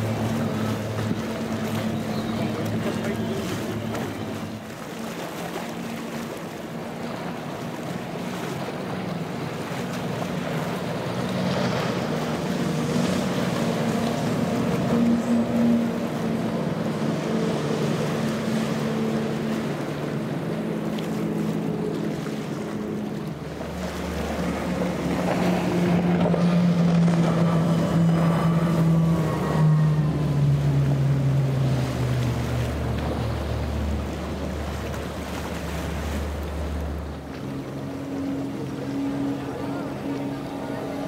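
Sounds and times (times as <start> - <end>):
outboard motors on fast boats: 0.0 - 41.0.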